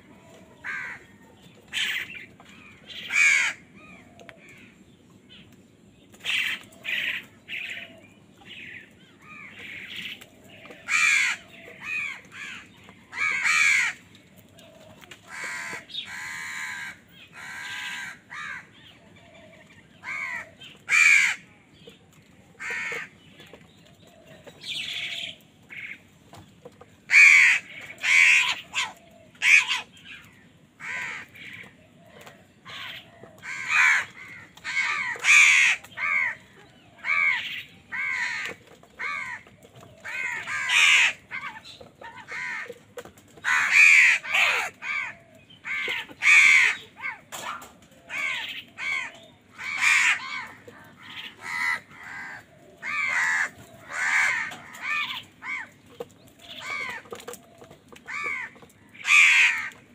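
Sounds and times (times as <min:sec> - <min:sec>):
crows cawing: 0:00.0 - 0:04.8, 0:08.6 - 0:21.5, 0:22.6 - 0:23.5, 0:27.0 - 0:59.9.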